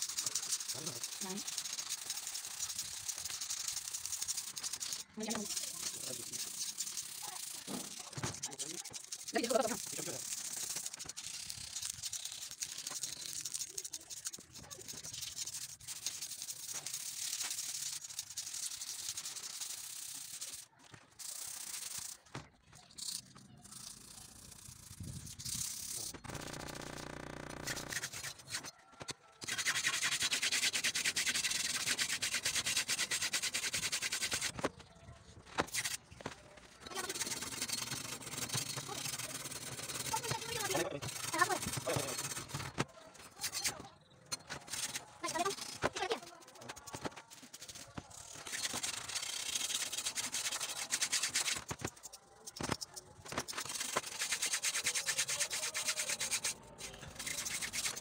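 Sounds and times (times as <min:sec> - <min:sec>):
blade being scrubbed and sanded: 0:00.0 - 0:22.3, 0:23.0 - 0:28.7, 0:29.4 - 0:34.7, 0:35.6 - 0:36.0, 0:36.8 - 0:43.8, 0:44.4 - 0:58.0.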